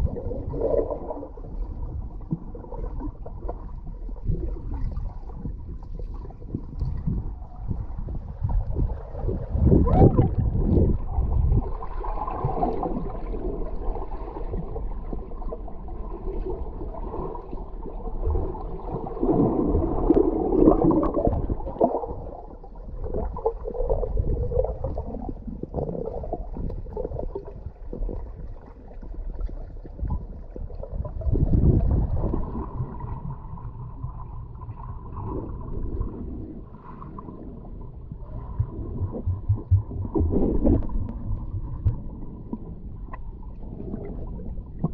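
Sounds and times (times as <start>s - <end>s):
muffled underwater rumbling and gurgling: 0.0s - 44.9s.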